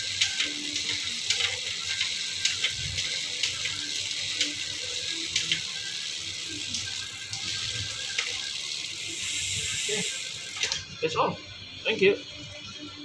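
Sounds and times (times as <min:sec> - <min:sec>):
bicycle chain running hiss: 0:00.0 - 0:11.2.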